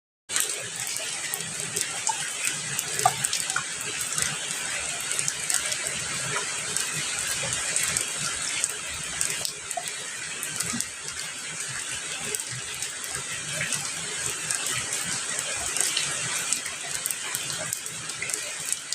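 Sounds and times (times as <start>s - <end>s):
raindrops dripping and spattering: 0.3s - 18.9s
steady rain hiss: 0.3s - 18.9s.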